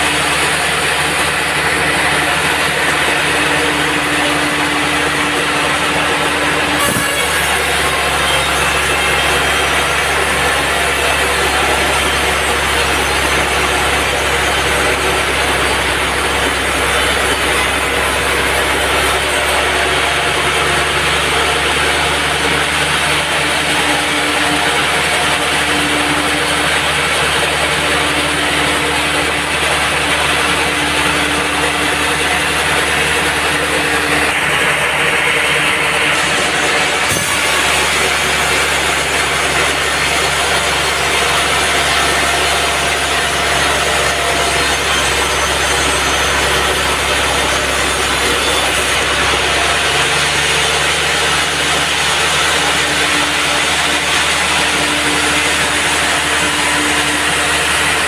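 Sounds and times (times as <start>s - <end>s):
band saw cutting log: 0.0s - 58.0s.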